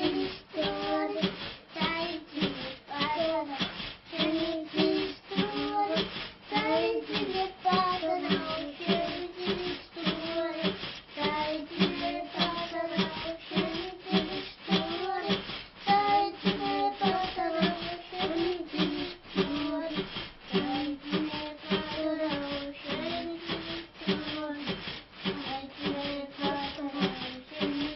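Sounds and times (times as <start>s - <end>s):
high voice singing: 0.0s - 27.9s
steady beat: 0.0s - 27.9s.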